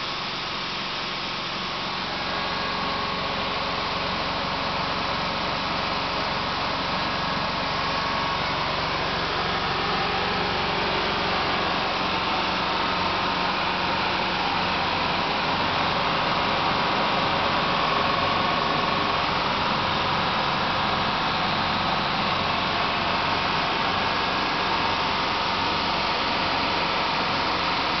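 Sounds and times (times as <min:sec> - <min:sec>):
car air conditioning compressor whirring: 0:00.0 - 0:28.0.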